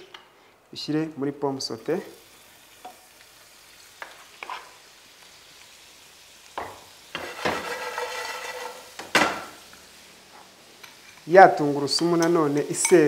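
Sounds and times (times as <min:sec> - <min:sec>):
food sizzling in a hot pan: 0:00.8 - 0:13.0.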